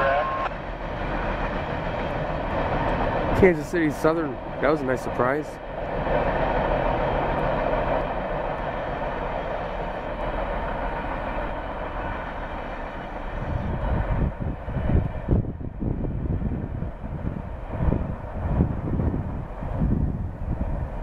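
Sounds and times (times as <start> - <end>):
wind buffeting microphone: 0.4 - 21.0.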